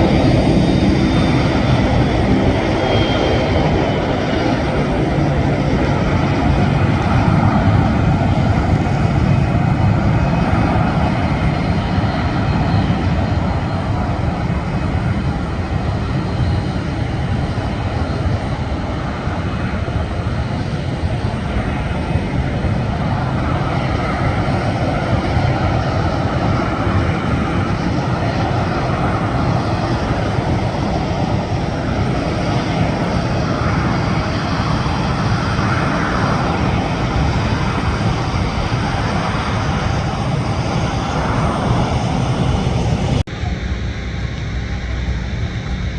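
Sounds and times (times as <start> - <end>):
jet engines roaring: 0.0 - 45.9.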